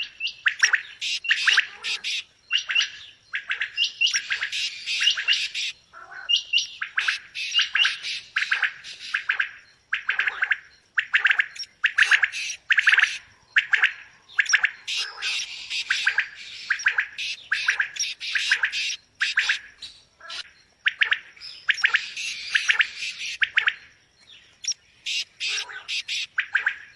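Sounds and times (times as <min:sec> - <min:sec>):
quail chirping: 0:00.0 - 0:26.8.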